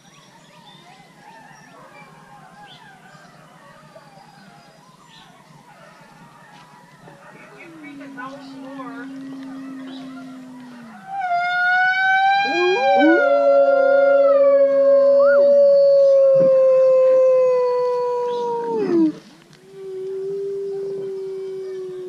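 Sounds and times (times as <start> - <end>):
wolves howling: 0.2 - 22.0.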